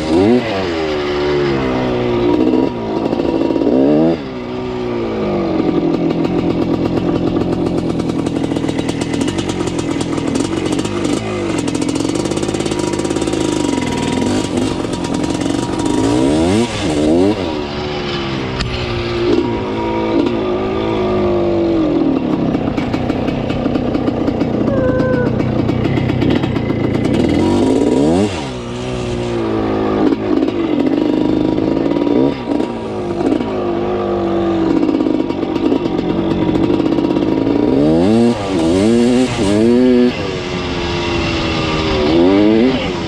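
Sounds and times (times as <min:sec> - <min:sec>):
two-stroke engine running: 0:00.0 - 0:43.0.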